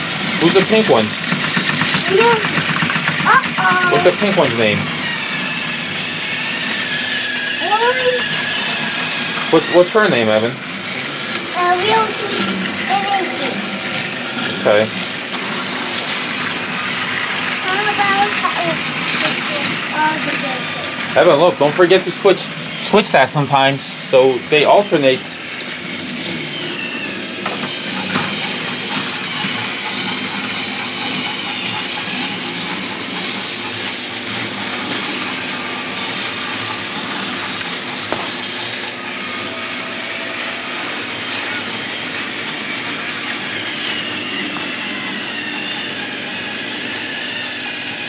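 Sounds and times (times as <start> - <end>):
toy train motors whirring: 0.0 - 48.0
toy train wheels rattling on track: 0.0 - 48.0.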